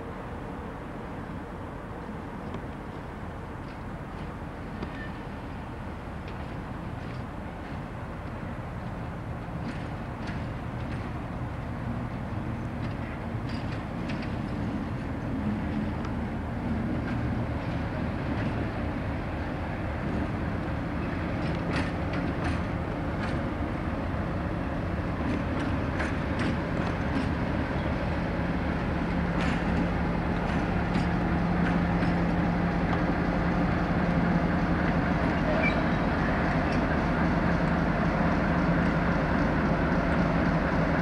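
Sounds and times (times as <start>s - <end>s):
locomotive diesel engine humming: 0.0s - 41.0s.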